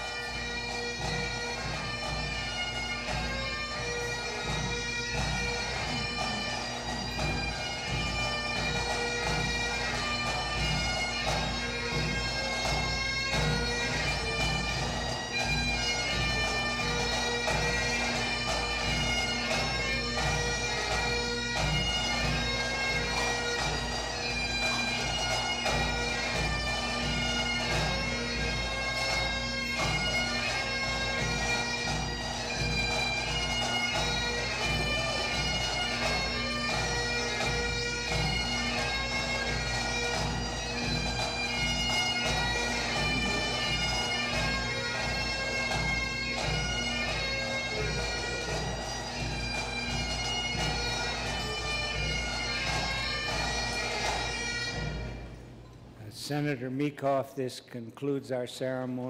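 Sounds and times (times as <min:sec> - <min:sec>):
bagpipes playing a tune: 0:00.0 - 0:55.8.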